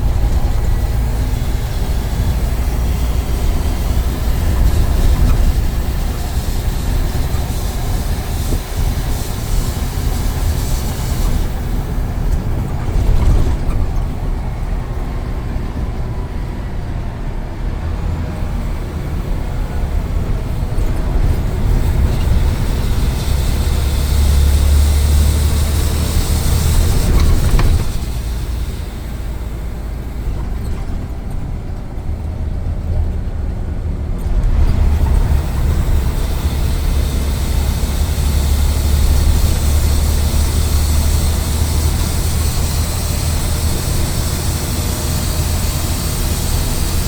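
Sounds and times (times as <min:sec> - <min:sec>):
bus engine rumble: 0:00.0 - 0:47.0
road noise: 0:00.0 - 0:47.0.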